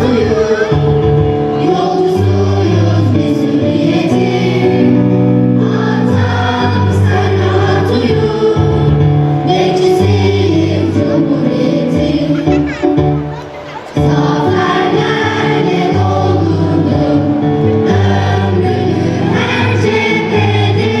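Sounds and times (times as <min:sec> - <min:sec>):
choir singing in unison: 0:00.0 - 0:12.5, 0:13.9 - 0:21.0
instrumental backing: 0:00.0 - 0:21.0.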